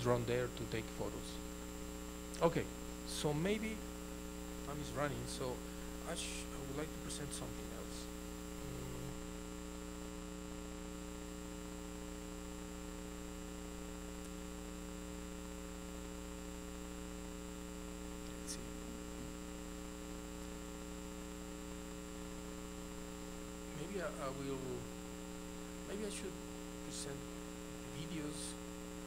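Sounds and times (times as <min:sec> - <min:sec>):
faint hiss: 0:00.0 - 0:12.2, 0:14.1 - 0:29.0
electrical mains hum: 0:00.0 - 0:29.0.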